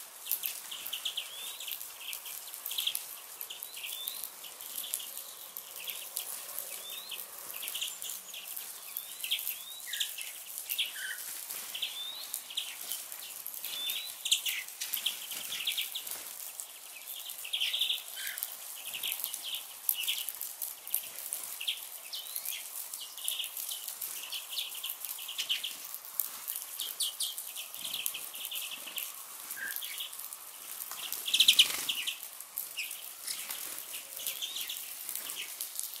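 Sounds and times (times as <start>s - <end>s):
songbirds chirping: 0.1s - 36.0s.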